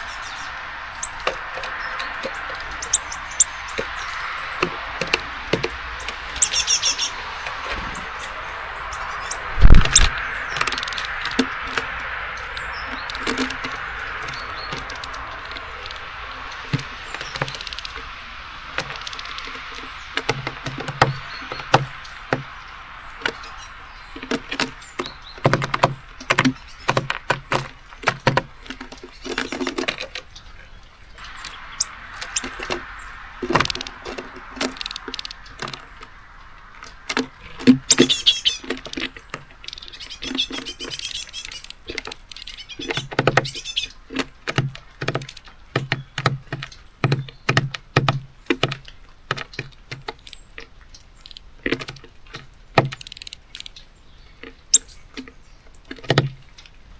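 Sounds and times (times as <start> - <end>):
beaks tapping on seed feeder: 0.0 - 56.5.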